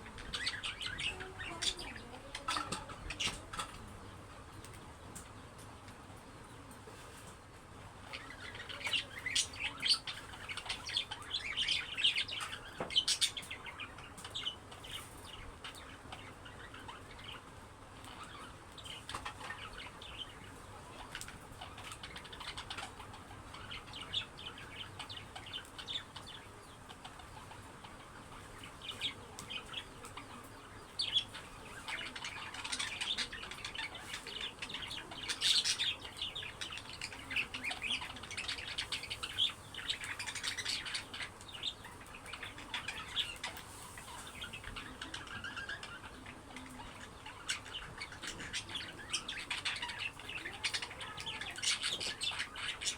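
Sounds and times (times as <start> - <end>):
budgerigars chattering and chirping: 0.0 - 5.0, 8.0 - 52.9.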